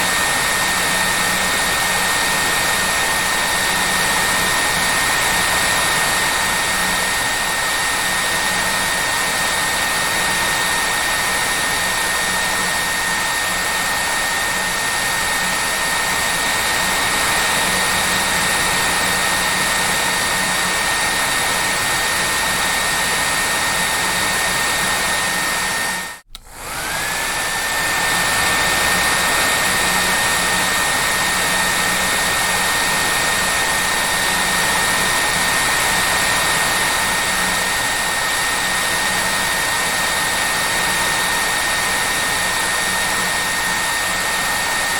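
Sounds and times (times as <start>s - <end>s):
hair dryer blowing: 0.0s - 44.9s.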